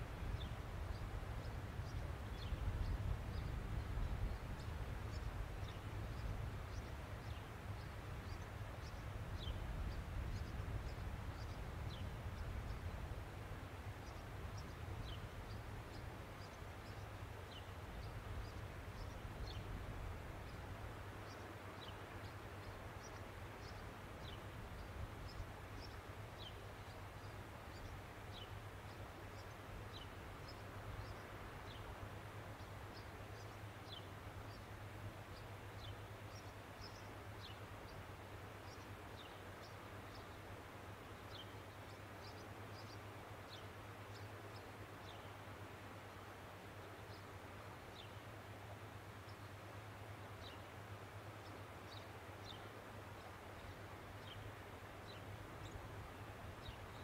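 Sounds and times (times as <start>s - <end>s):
low hum and hiss: 0.0s - 57.0s
small birds chirping: 0.1s - 57.0s.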